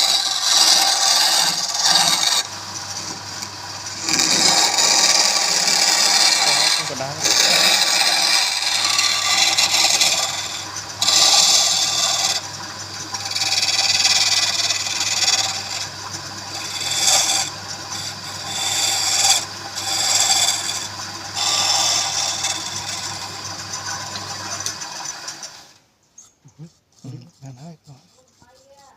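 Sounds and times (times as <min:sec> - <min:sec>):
tool scraping spinning wood: 0:00.0 - 0:28.9.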